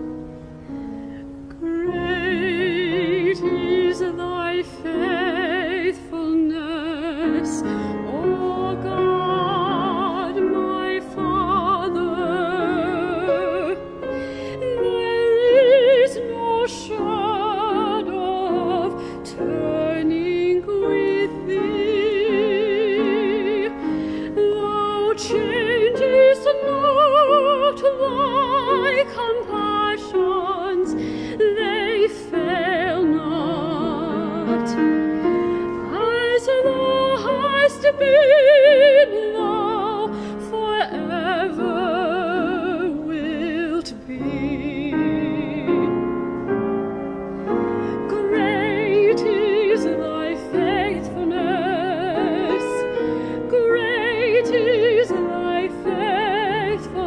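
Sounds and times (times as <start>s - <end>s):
piano accompaniment: 0.0s - 57.0s
woman singing operatically: 1.5s - 46.0s, 48.0s - 57.0s.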